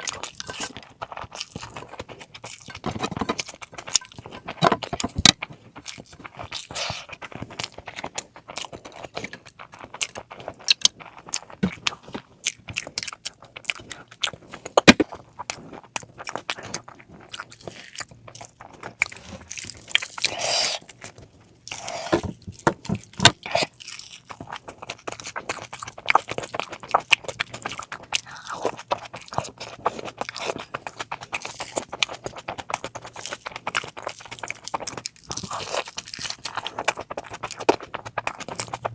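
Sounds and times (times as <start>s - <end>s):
person chewing and biting: 0.0s - 38.9s.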